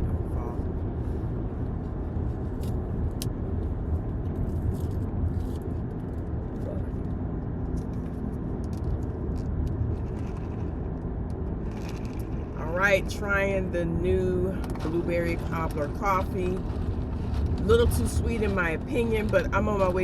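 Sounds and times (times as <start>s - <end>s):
car engine low rumble: 0.0s - 20.0s.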